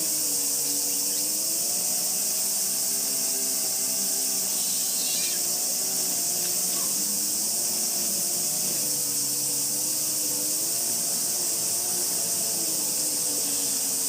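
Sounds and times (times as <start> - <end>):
cicada chorus: 0.0 - 14.0
motor droning: 0.0 - 14.0.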